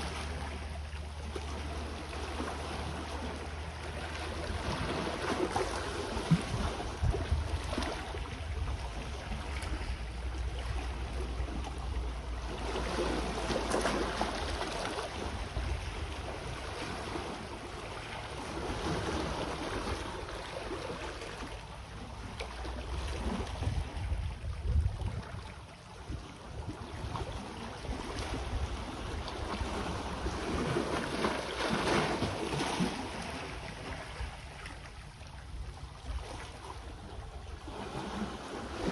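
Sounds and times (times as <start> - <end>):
sea waves washing on shore: 0.0 - 38.9
wind rumbling on microphone: 2.1 - 20.5, 22.0 - 38.9.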